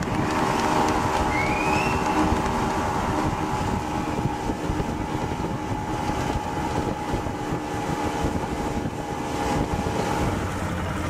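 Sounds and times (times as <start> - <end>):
outboard motor running: 0.0 - 11.0
wind buffeting microphone: 0.0 - 11.0.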